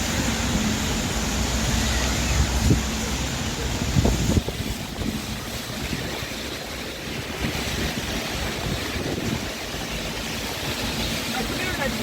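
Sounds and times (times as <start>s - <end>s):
rain: 0.0s - 12.0s
wet city street noise: 0.0s - 12.0s.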